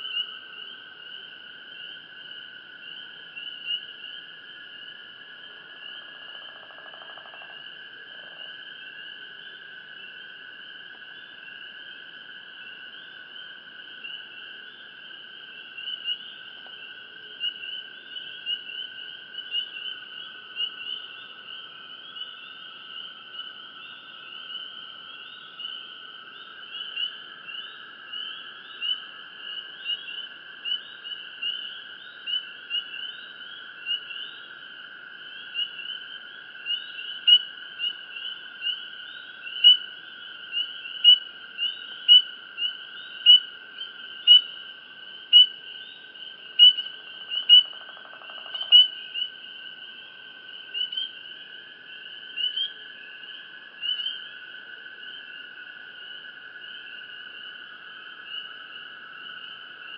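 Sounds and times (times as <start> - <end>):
crickets chirping: 0.0 - 59.9
low-pitched insect trill: 0.0 - 59.9.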